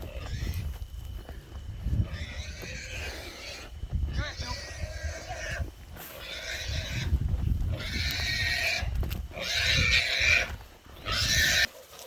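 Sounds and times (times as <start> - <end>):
wild boar squealing: 2.0 - 11.8.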